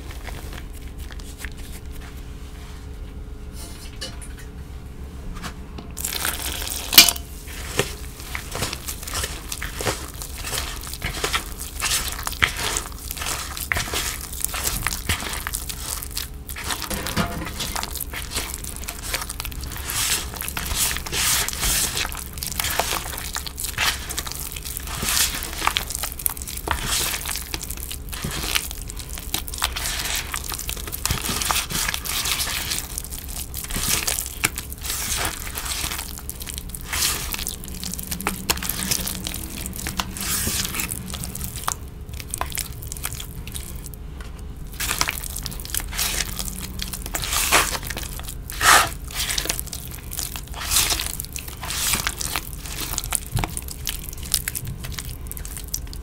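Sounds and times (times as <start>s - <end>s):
damp chalk crunching and squishing: 0.0s - 2.8s, 6.0s - 44.0s, 44.6s - 56.0s.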